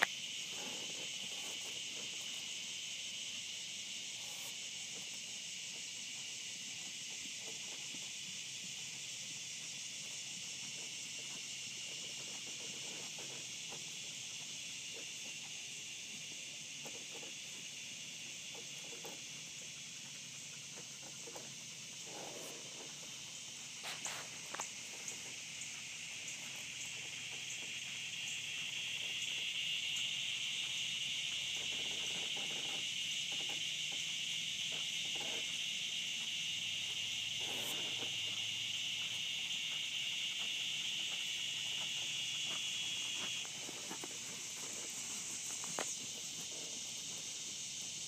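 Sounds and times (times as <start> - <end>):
insects chirring: 0.0 - 48.0.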